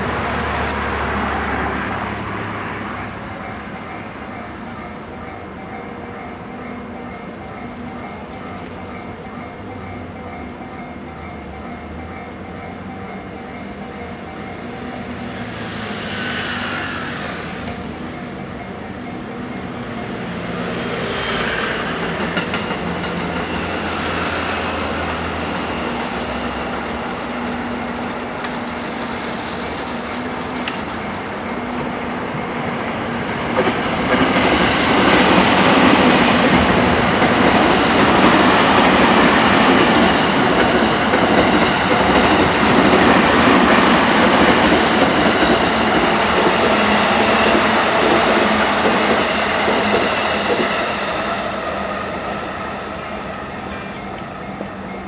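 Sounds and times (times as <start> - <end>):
electric trains wheels on rails: 0.0 - 55.0.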